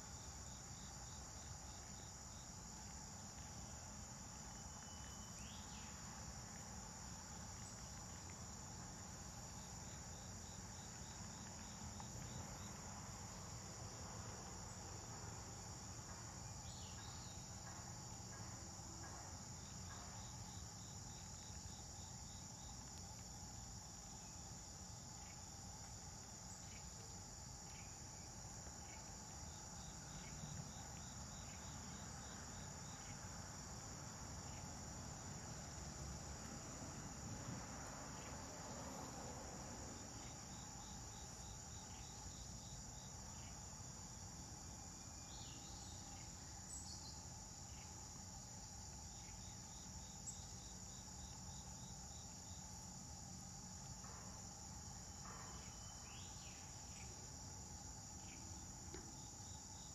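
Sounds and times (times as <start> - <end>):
insect chorus drone: 0.0 - 59.9
rapid ticking insect calls: 0.0 - 59.9.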